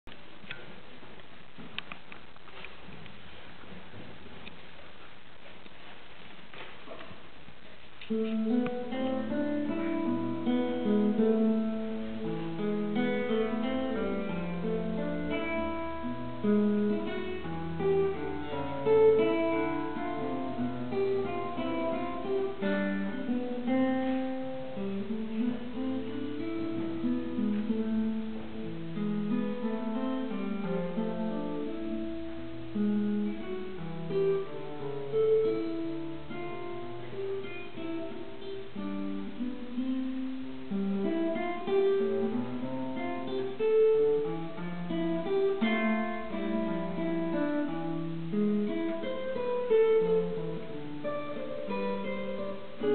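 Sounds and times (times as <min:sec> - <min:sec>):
fingerstyle classical guitar: 0:00.0 - 0:52.9.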